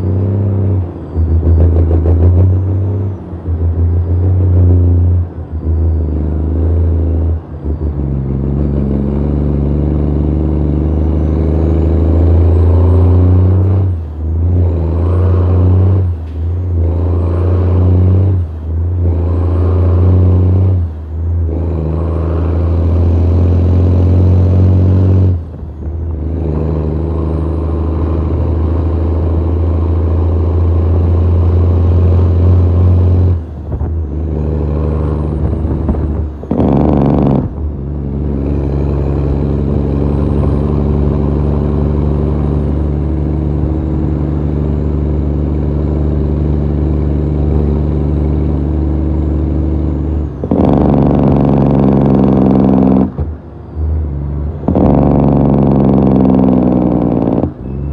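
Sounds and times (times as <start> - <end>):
truck diesel engine: 0.0 - 57.9.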